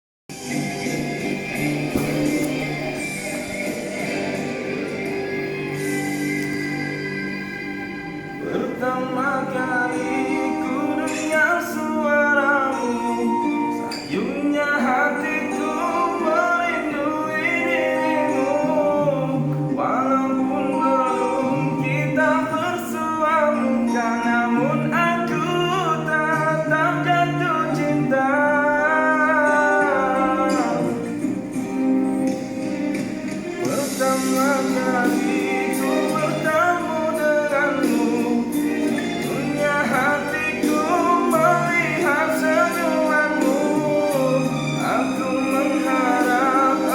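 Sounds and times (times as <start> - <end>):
guitar accompaniment: 0.3 - 46.9
person singing: 0.3 - 46.9.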